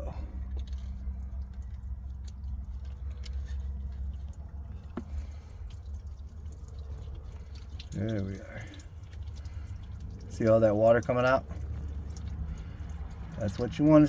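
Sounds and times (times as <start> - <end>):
small ticks and splashes: 0.5 - 14.0
water draining and dripping: 0.8 - 14.0.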